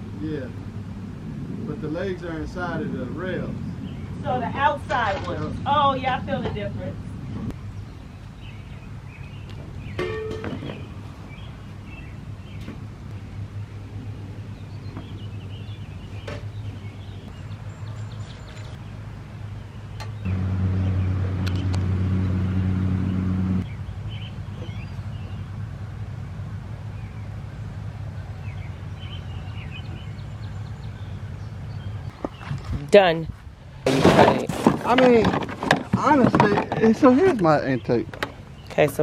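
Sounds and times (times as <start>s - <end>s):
low motor hum: 0.0s - 32.9s
birds chirping: 0.0s - 39.0s.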